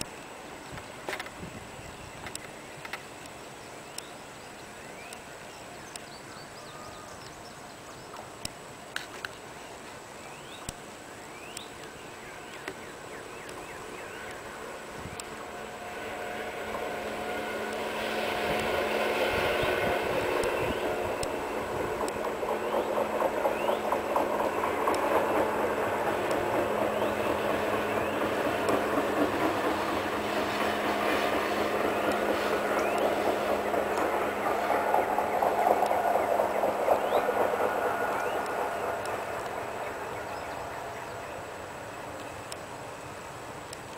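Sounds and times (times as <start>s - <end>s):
track machine engines humming: 0.0s - 43.9s
wheels clattering on track: 2.2s - 43.9s.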